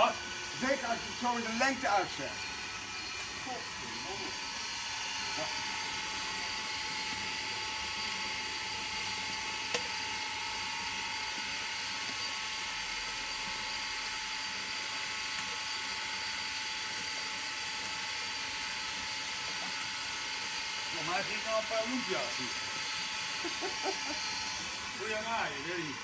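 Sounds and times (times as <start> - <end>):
electric water pump whining: 0.0 - 26.0.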